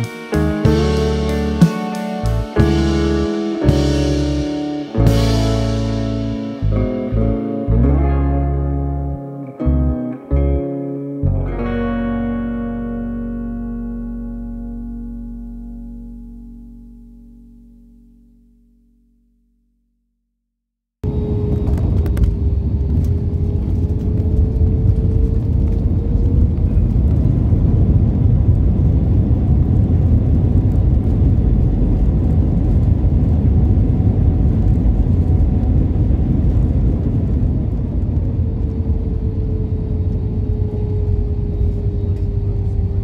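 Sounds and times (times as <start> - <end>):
low rumble of engines and wheels: 0.0 - 16.2, 21.0 - 43.0
thin engine whine: 0.0 - 19.4, 21.0 - 43.0.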